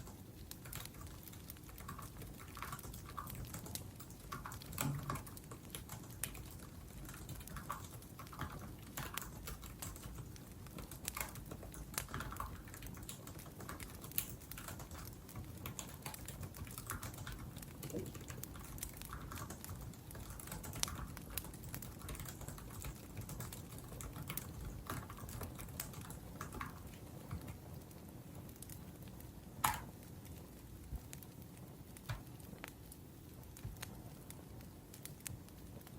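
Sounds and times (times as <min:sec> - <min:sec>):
laptop keyboard typing: 0:00.0 - 0:28.8, 0:29.6 - 0:30.1
wood fire crackling: 0:00.0 - 0:35.9.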